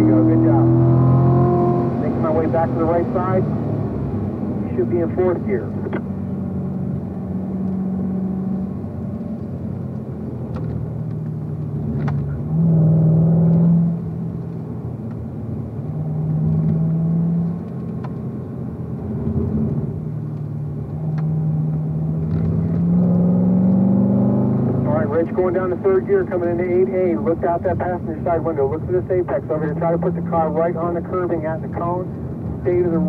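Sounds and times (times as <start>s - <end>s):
car engine at low revs: 0.0s - 33.0s.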